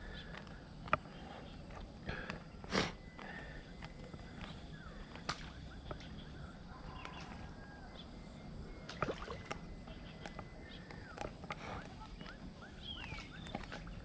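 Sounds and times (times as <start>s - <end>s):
bird chirps: 0.1s - 14.0s.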